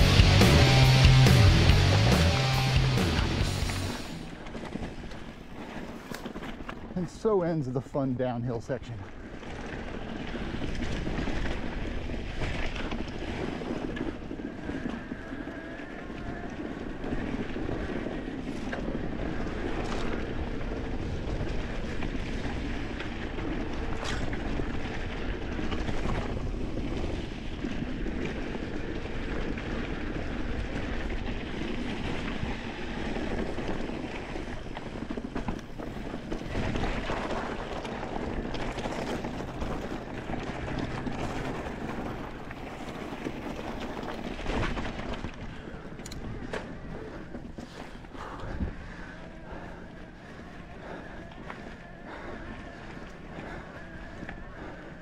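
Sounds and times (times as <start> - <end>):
bike rattling: 0.0 - 55.0
bike tyres on gravel: 0.0 - 55.0
wind rush on microphone: 9.1 - 55.0.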